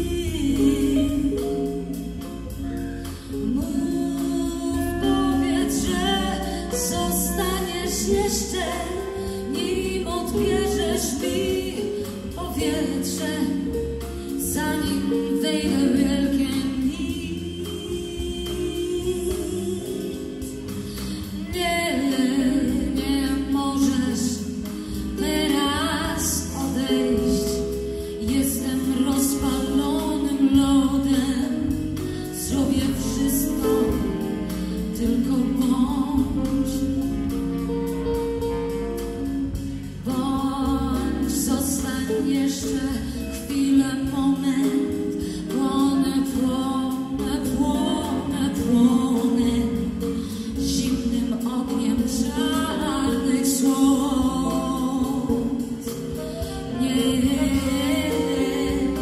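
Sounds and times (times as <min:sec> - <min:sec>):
bass guitar: 0:00.0 - 0:59.0
drums: 0:00.0 - 0:59.0
electric guitar: 0:00.0 - 0:59.0
woman singing: 0:00.0 - 0:59.0.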